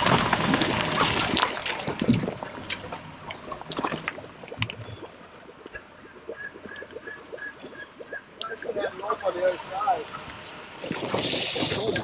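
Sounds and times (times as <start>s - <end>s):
river water trickling: 0.0s - 12.0s.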